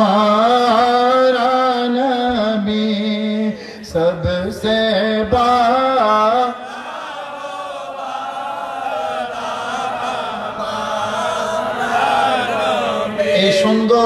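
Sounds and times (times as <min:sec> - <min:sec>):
congregation chanting a devotional song: 0:00.0 - 0:14.0.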